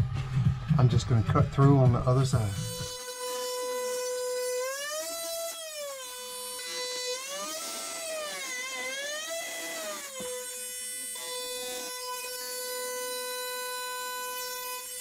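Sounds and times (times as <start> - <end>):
oscillating multi-tool buzzing whine: 0.0 - 15.0.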